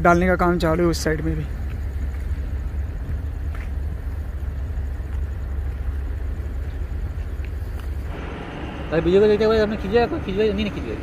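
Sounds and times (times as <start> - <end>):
heavy vehicle engine idling: 0.0 - 11.0.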